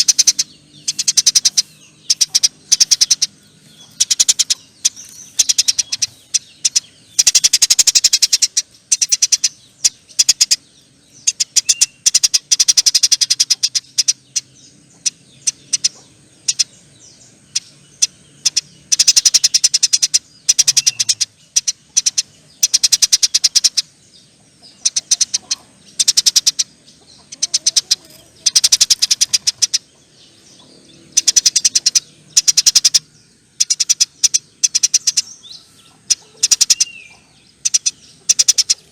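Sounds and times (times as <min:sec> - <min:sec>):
sparrow chattering: 0:00.0 - 0:38.9.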